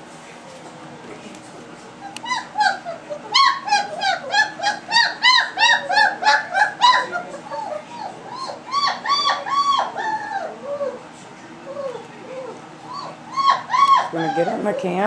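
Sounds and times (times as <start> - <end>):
puppies whining yelps: 2.0 - 11.0, 11.7 - 15.0.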